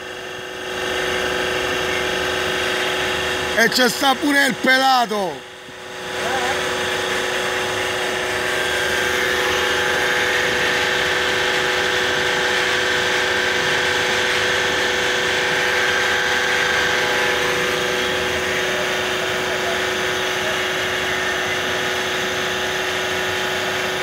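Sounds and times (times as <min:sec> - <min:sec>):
hydraulic machine hum and whine: 0:00.0 - 0:24.0.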